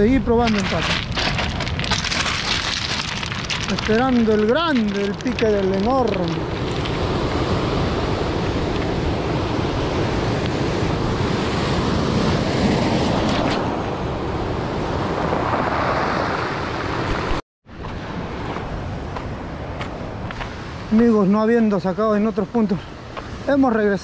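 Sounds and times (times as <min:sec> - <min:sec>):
wind on microphone: 0:00.0 - 0:21.2
ocean surf breaking: 0:00.0 - 0:24.0.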